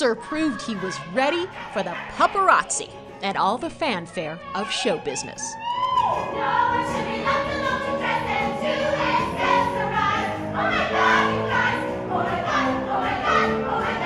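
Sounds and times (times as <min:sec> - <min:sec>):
chorus singing: 0:00.0 - 0:14.0.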